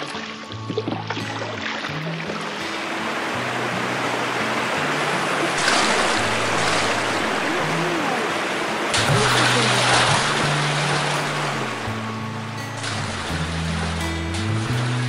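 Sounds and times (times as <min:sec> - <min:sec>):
background music with bass: 0:00.0 - 0:15.0
rushing river water: 0:00.0 - 0:15.0.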